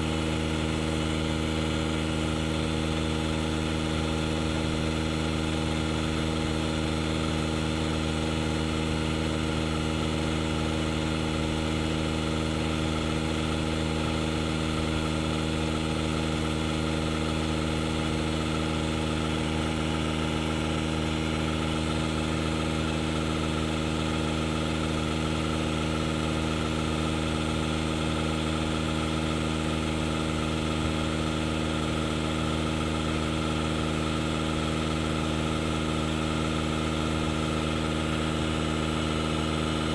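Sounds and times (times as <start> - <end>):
tire inflator motor drone: 0.0 - 39.9.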